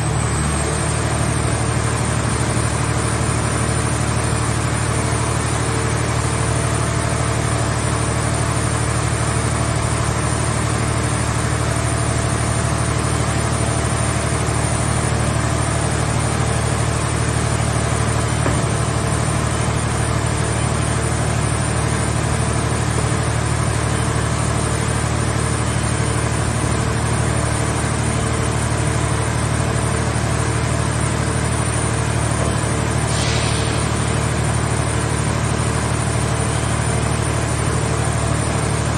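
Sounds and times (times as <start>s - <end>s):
power unit engine droning: 0.0s - 38.9s.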